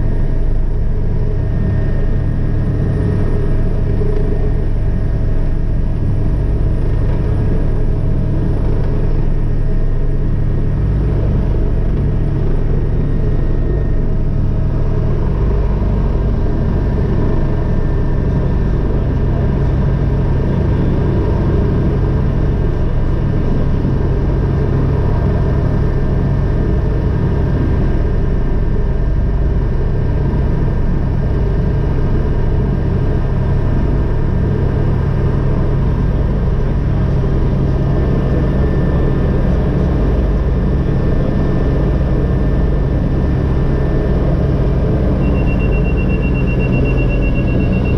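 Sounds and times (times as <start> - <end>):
helicopter engine and rotor rumble: 0.0 - 47.9
high turbine whine: 0.0 - 47.9.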